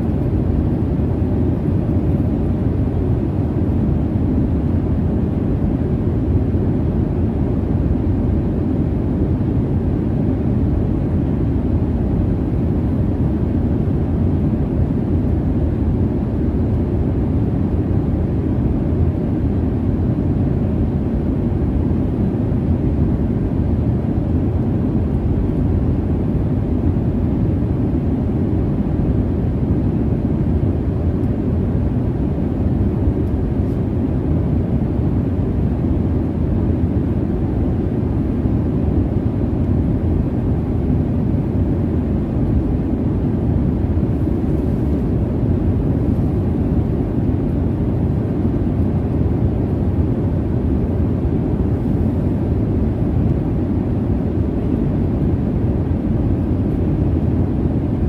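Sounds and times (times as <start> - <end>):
jet noise inside airplane cabin: 0.0 - 58.0.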